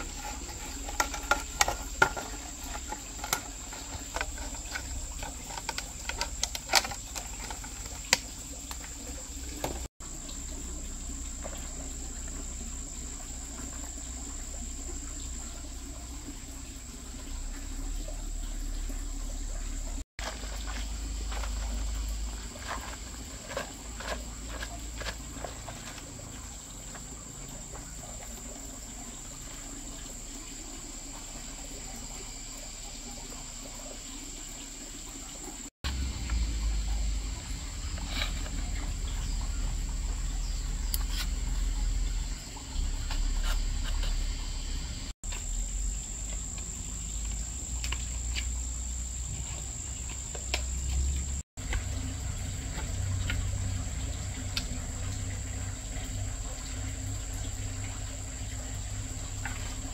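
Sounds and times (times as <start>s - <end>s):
insect trilling: 0.0s - 59.9s.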